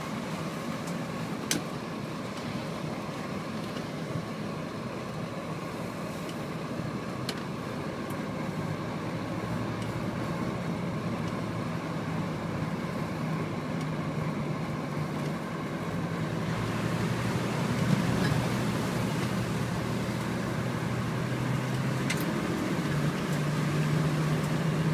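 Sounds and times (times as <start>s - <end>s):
car engine hum: 0.0s - 24.9s
road noise: 0.0s - 24.9s.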